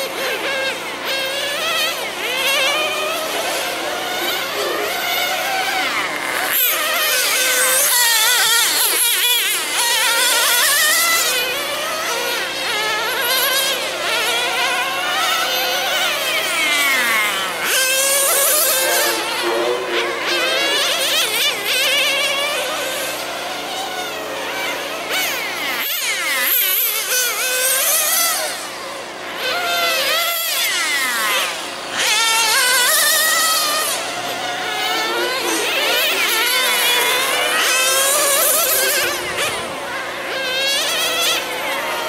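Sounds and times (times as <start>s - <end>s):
rc car engines whining: 0.0s - 42.0s.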